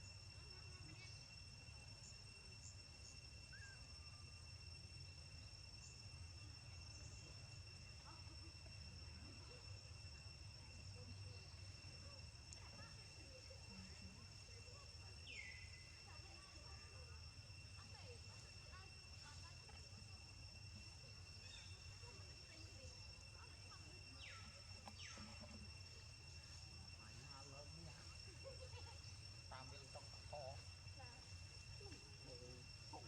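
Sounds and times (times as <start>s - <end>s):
insect drone: 0.0s - 33.0s.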